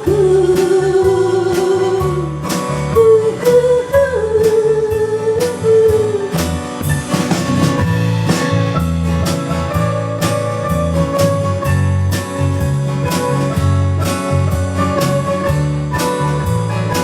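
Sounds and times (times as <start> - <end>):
live band playing country-folk: 0.0 - 17.0.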